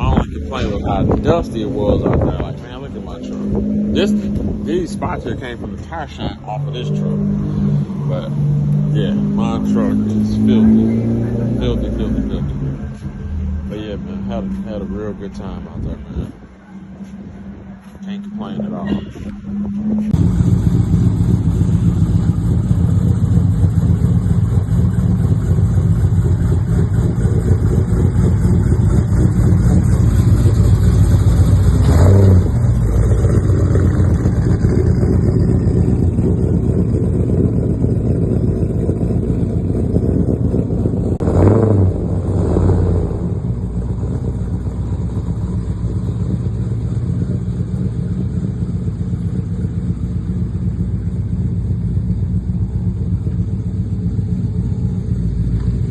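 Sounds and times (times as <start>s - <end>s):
road noise: 0.0s - 55.9s
vehicle engine hum: 0.0s - 55.9s.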